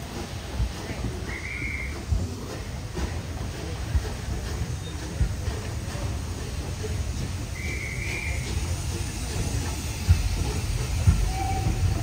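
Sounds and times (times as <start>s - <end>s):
steam train rumble: 0.0s - 12.0s.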